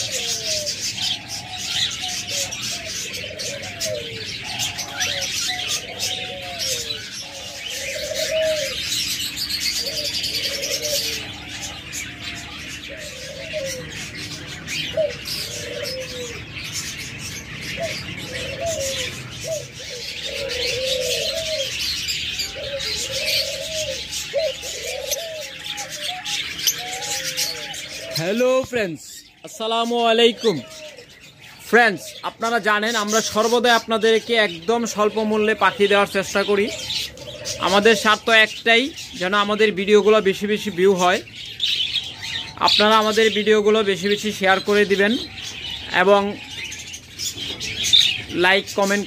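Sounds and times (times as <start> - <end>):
doves cooing: 0.0 - 49.0
small cage birds chirping: 0.0 - 49.0.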